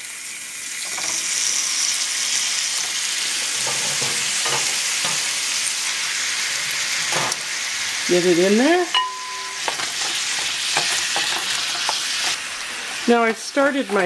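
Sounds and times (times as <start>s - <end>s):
meat sizzling in a skillet: 0.0s - 14.0s.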